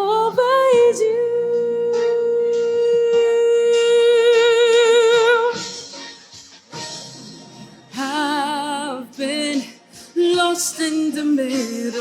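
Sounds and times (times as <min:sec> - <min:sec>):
soft instrumental backing: 0:00.0 - 0:12.0.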